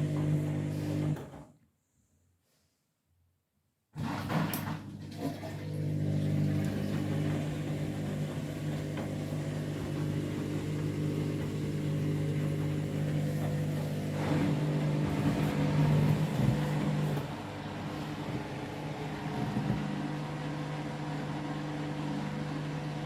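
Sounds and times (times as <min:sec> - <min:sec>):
washing machine motor humming: 0:00.0 - 0:01.4, 0:04.0 - 0:23.0.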